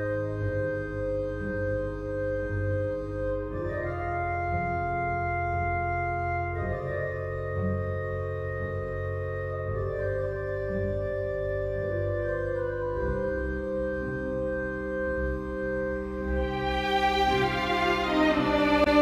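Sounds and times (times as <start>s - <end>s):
slow sustained music chords: 0.0s - 19.0s
steady low drone: 0.0s - 19.0s.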